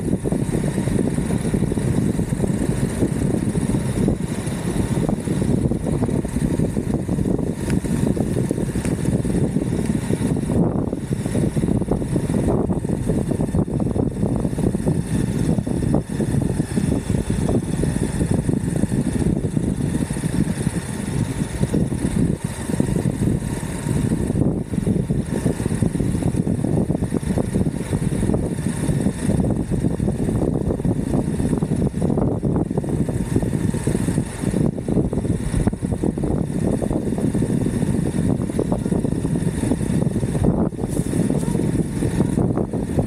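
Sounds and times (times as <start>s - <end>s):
wheels rumbling on road: 0.0s - 43.0s
wind buffeting microphone: 0.0s - 43.0s.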